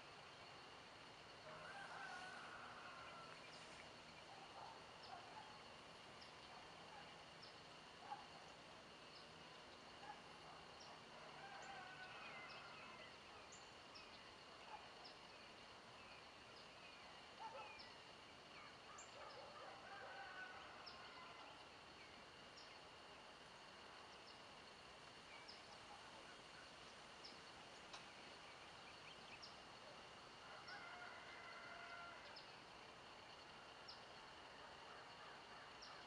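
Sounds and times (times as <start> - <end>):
insect hum: 0.0 - 36.0.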